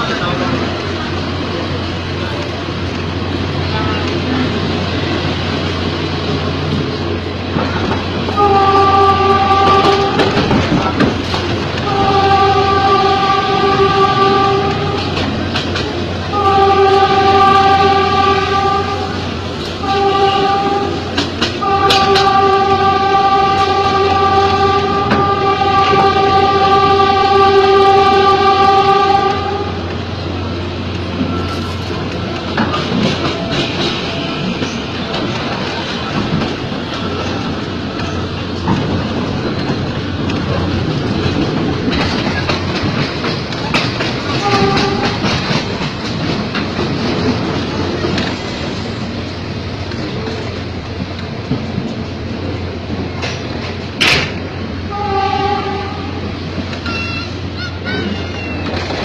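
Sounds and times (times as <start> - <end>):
rail joint clicks: 0.0 - 59.0
train wheels rumbling: 0.0 - 59.0
train motor electric hum: 0.1 - 59.0.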